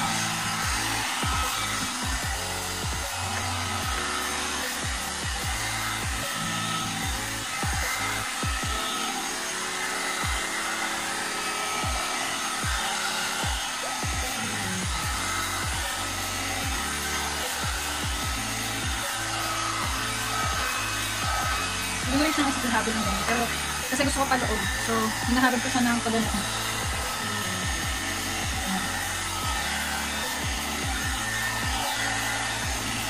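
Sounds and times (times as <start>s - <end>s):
hot air brush blowing: 0.0s - 33.0s.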